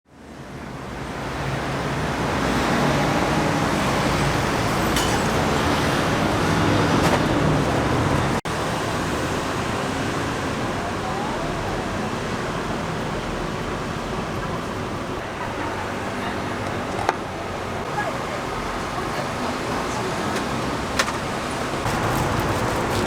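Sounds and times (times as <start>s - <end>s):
city street traffic: 0.1s - 23.0s.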